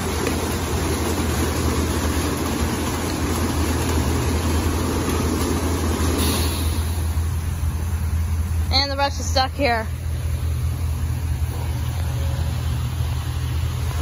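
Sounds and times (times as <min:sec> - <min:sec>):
car wash brushes and water spray: 0:00.0 - 0:14.0
low machine hum: 0:00.0 - 0:14.0.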